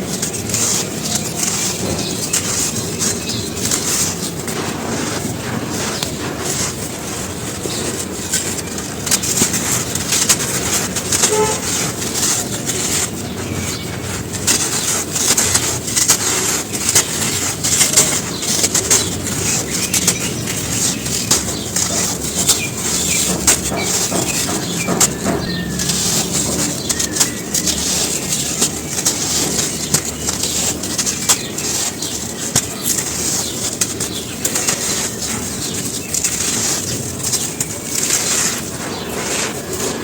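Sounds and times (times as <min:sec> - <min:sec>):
charcoal ash crumbling and crunching: 0:00.0 - 0:40.0.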